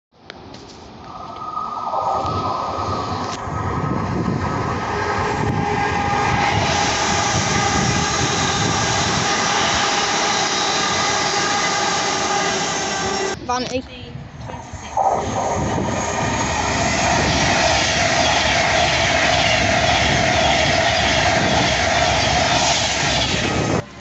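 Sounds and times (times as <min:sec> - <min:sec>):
train traction motor whine: 0:01.0 - 0:13.4, 0:14.4 - 0:24.0.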